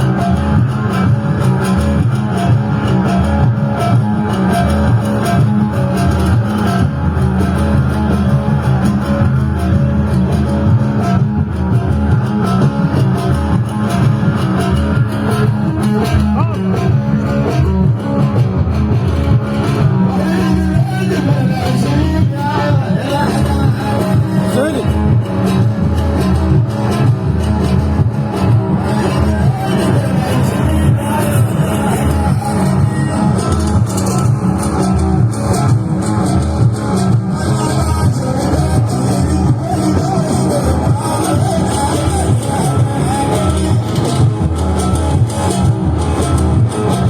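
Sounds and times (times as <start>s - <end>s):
live band instrumental music: 0.0s - 47.0s
plucked electric guitar: 0.0s - 47.0s
steady bass line: 0.0s - 47.0s.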